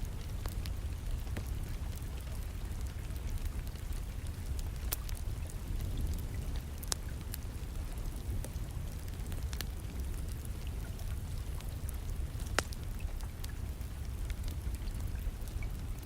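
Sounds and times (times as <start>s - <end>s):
low rumble of rain: 0.0s - 16.0s
wood fire crackling and popping: 0.0s - 16.0s.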